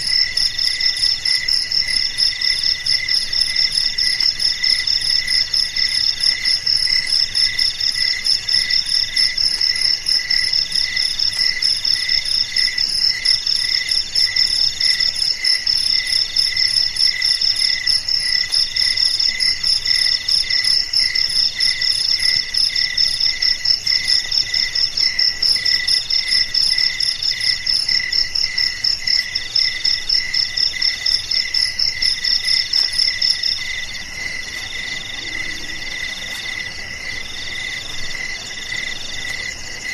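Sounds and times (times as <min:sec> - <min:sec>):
low pulsing cricket chirp: 0:00.0 - 0:39.9.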